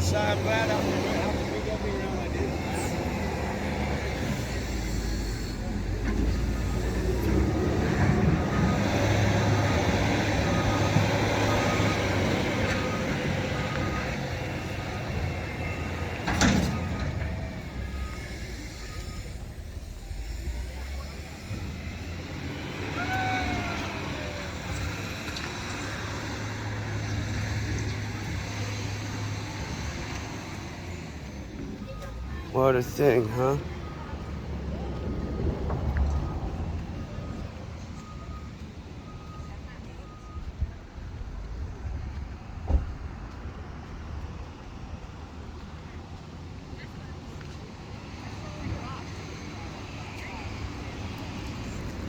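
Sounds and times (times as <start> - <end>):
heavy machinery engine droning: 0.0 - 52.0.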